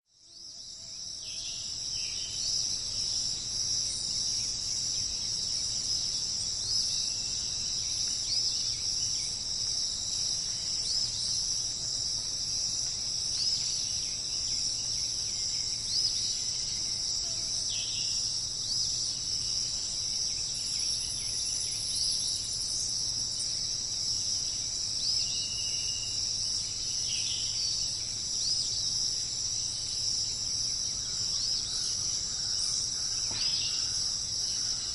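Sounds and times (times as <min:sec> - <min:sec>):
insects chorus: 0:00.1 - 0:34.9.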